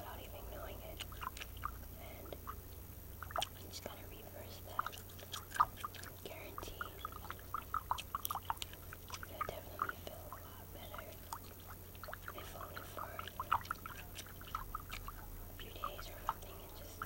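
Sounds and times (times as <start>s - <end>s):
chewing gum smacks: 0.8s - 2.6s, 3.2s - 17.0s.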